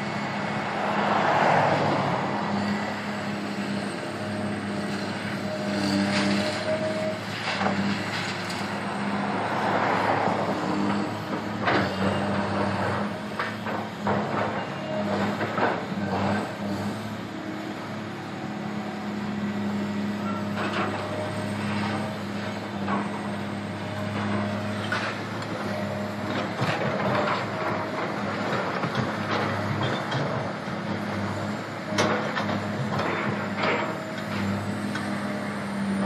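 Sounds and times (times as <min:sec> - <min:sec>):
diesel engine drone: 0:00.0 - 0:36.0.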